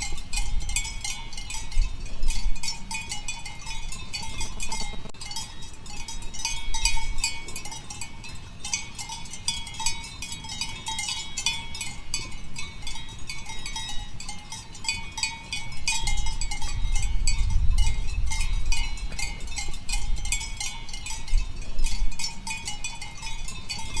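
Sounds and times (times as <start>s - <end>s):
goat bells clanking: 0.0s - 24.0s.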